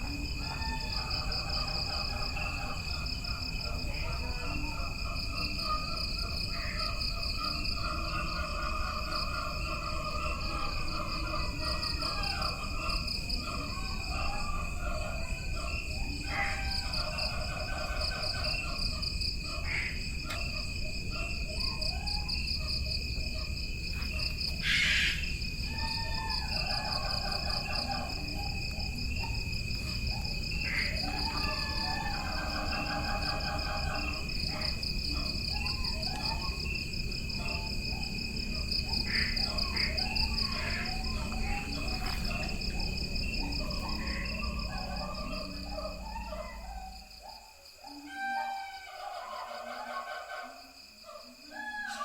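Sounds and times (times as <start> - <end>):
chirring insects chorus: 0.0 - 52.0
trilling animal calls: 0.0 - 52.0.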